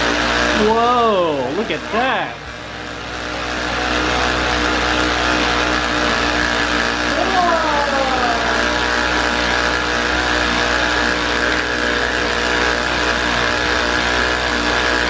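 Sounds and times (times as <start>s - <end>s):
small toy motor humming: 0.0s - 15.0s.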